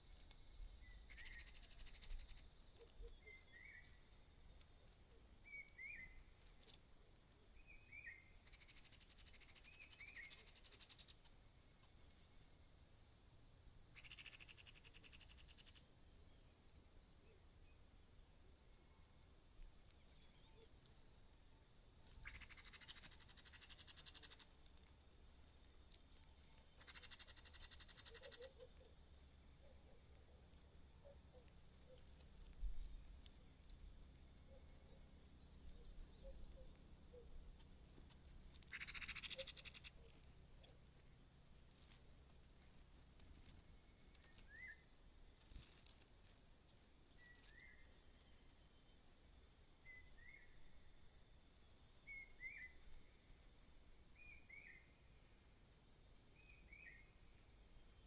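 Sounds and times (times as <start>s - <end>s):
young birds chirping: 0.0s - 12.5s, 13.8s - 15.8s, 18.9s - 58.0s.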